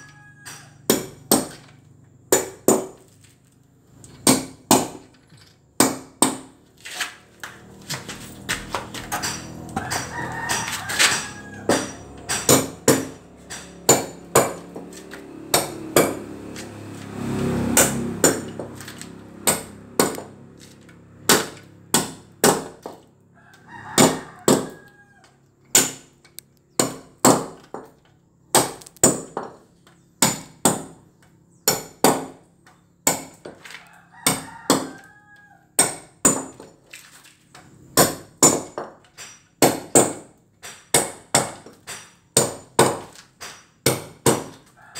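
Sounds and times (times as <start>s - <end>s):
hammer striking concrete: 0.4s - 1.7s, 2.3s - 3.1s, 4.2s - 5.1s, 5.8s - 23.1s, 24.0s - 24.9s, 25.7s - 29.6s, 30.2s - 31.0s, 31.6s - 33.6s, 34.2s - 35.1s, 35.8s - 36.8s, 38.0s - 44.7s.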